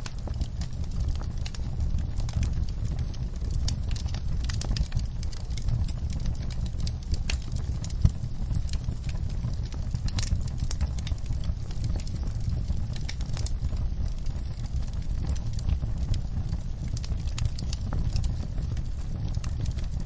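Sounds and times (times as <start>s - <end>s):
low steady rumble: 0.0s - 20.0s
wood fire crackling and popping: 0.0s - 20.0s.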